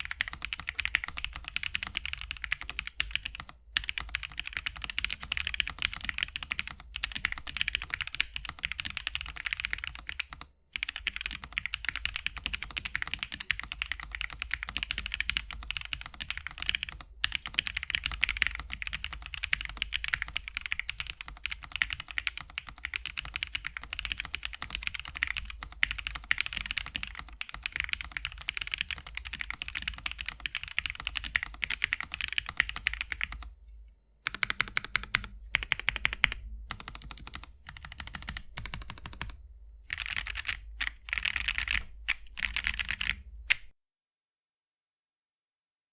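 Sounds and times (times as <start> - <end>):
fast typing on mechanical keyboard: 0.0 - 33.5, 34.3 - 43.7.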